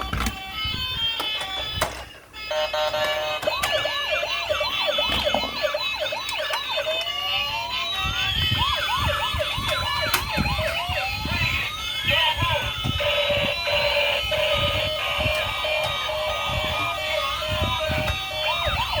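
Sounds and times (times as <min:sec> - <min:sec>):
electronic siren yelping and wailing: 0:00.0 - 0:19.0.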